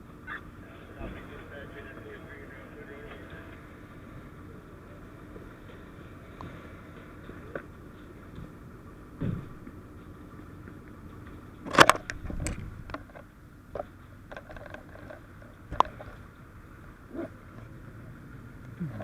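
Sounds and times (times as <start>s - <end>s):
fire engine running: 0.0s - 19.0s.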